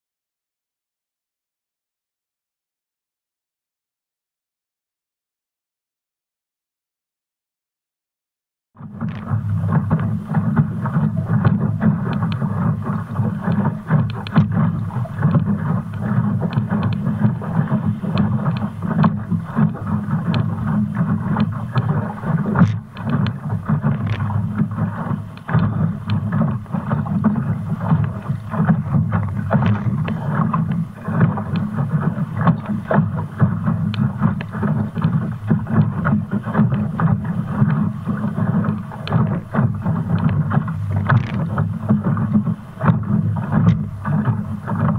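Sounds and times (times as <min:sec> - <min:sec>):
water rushing along hull: 0:08.8 - 0:44.9
waves slapping against bow: 0:08.8 - 0:44.9
wind buffeting microphone: 0:08.8 - 0:44.9.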